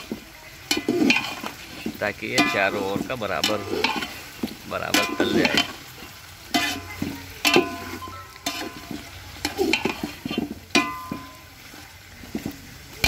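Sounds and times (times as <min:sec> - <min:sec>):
ladle scraping through meat: 0:00.0 - 0:10.7
ladle knocking metal pot: 0:00.0 - 0:11.6
meat sizzling in oil: 0:00.0 - 0:13.0.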